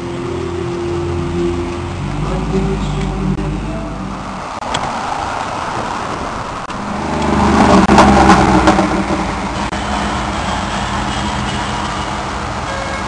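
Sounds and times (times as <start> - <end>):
car engine accelerating: 0.0 - 12.6.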